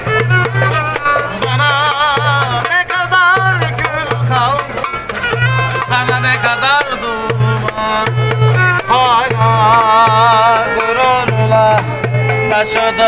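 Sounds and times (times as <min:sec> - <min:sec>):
drum beat: 0:00.0 - 0:13.0
violin melody with vibrato: 0:00.0 - 0:13.0.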